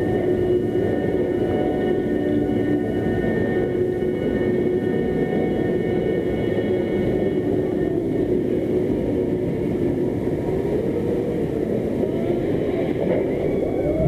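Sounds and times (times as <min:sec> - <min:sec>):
roller coaster roar: 0:00.0 - 0:14.0
wavering whines: 0:00.0 - 0:14.0.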